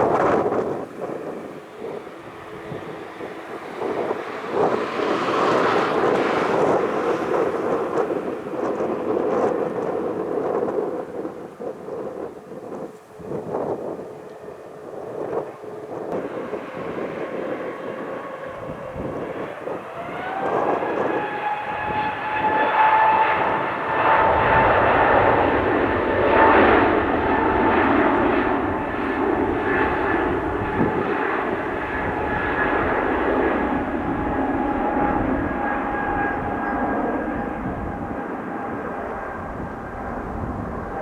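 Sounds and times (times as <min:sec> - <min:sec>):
jet engines spooling up: 0:00.0 - 0:41.0
jet rumble: 0:00.0 - 0:41.0.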